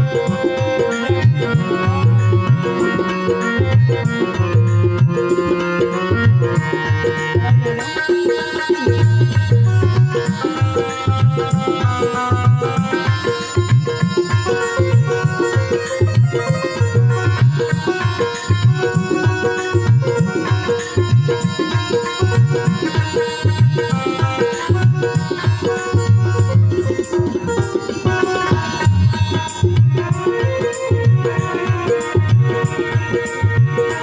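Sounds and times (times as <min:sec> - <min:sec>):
melody instrument holding notes: 0:00.0 - 0:34.0
tabla rhythm: 0:00.0 - 0:34.0.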